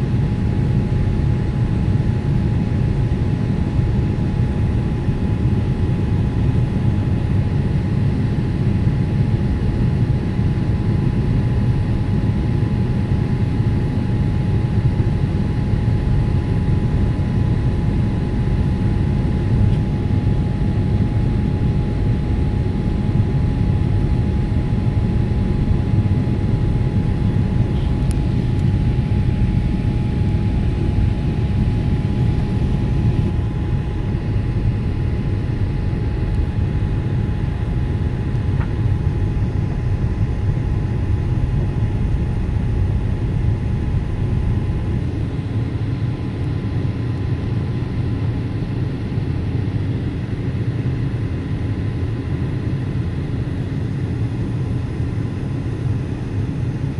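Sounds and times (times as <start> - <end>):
airliner engines rumbling: 0.0 - 56.9
thin steady whine: 0.0 - 56.9.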